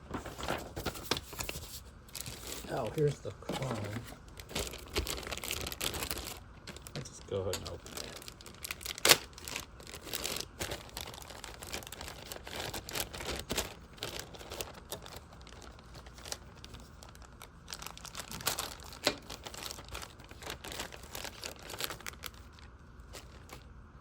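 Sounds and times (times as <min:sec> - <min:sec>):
plastic bag crinkling: 0:00.0 - 0:23.8.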